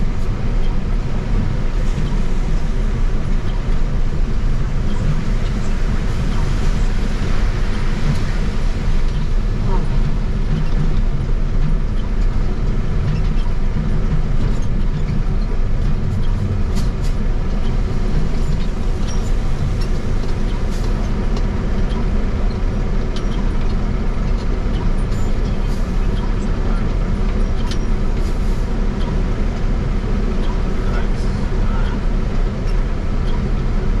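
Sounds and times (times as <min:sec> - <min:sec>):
truck road and engine rumble: 0:00.0 - 0:34.0.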